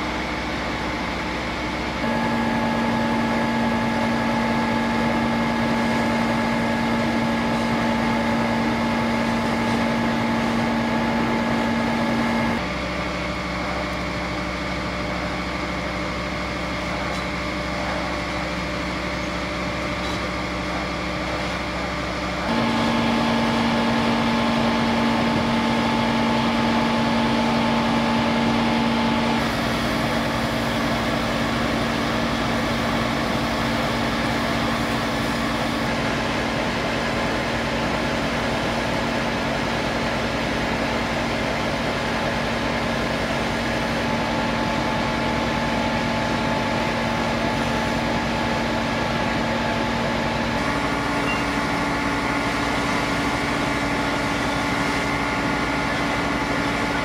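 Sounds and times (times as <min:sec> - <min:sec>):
fire truck engines running: 0:00.0 - 0:57.0.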